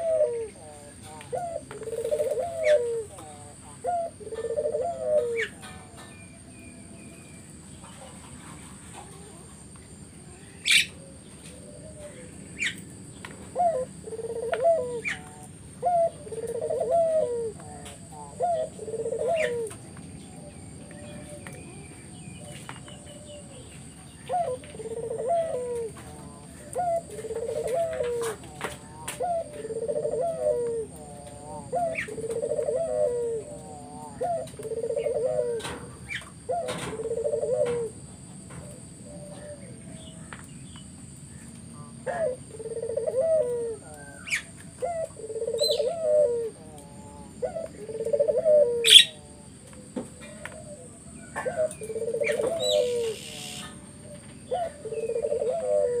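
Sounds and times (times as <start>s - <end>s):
dove cooing: 0.0s - 40.5s, 41.3s - 56.0s
small birds chirping: 0.0s - 56.0s.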